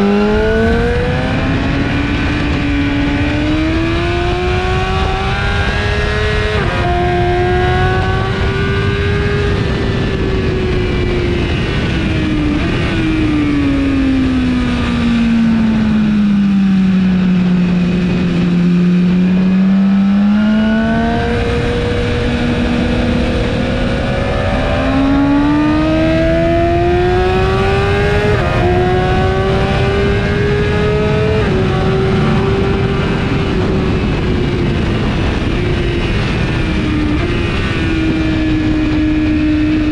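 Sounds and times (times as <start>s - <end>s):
sport bike engine revving: 0.0s - 10.8s, 11.4s - 39.9s
wind rush: 0.0s - 39.9s.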